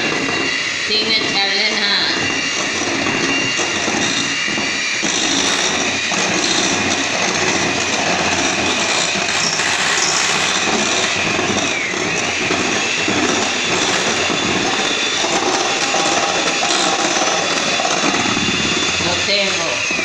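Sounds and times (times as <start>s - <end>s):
electric hand mixer whipping eggs: 0.0s - 20.0s.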